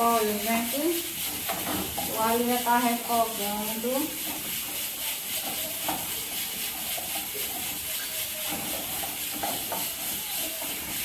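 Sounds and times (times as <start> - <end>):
garlic sizzling in oil: 0.0 - 11.0
spoon scraping a pan: 0.0 - 11.0.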